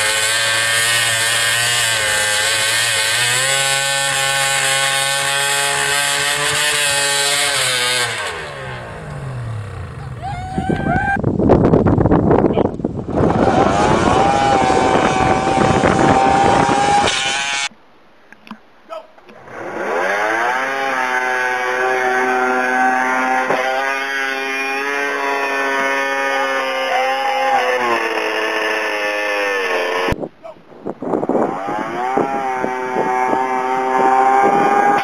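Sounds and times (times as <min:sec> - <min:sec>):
snowmobile engine revving: 0:00.0 - 0:11.2, 0:12.8 - 0:17.7, 0:19.4 - 0:30.2, 0:31.3 - 0:35.0.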